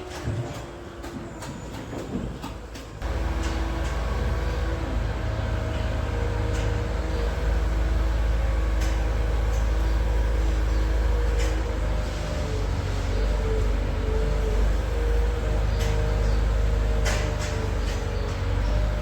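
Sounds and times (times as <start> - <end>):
tractor engine rumbling: 3.0 - 19.0.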